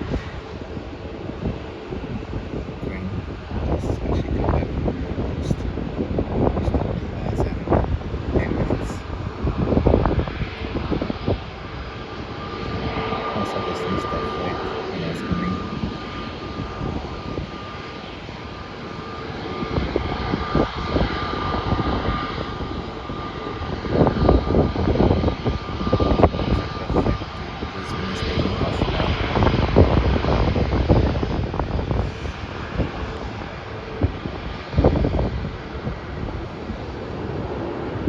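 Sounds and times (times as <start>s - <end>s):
jet engine rumble: 0.0s - 38.0s
jet engine whine: 0.0s - 38.0s
wind gusting on microphone: 0.0s - 38.0s.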